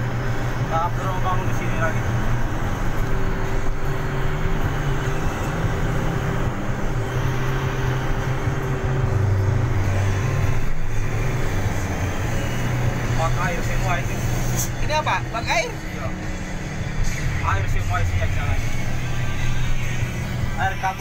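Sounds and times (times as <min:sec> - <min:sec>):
road noise from inside car: 0:00.0 - 0:21.0
vehicle engine hum: 0:00.0 - 0:21.0.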